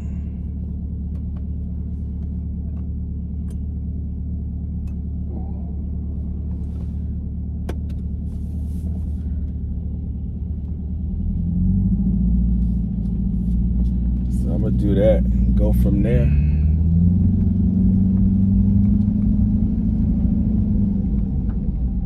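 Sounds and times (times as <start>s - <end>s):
car engine rumbling and revving: 0.0s - 22.0s.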